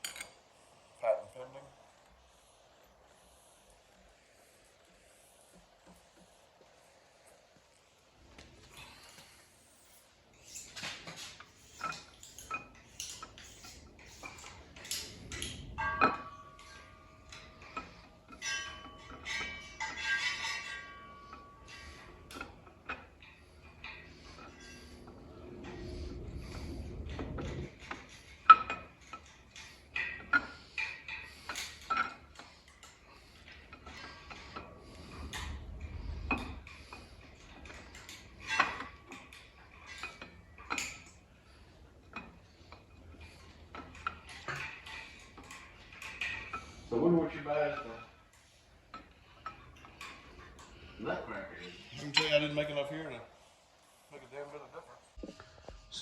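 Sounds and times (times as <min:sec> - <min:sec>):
metal tools clinking: 0:00.0 - 0:00.4, 0:08.4 - 0:53.2.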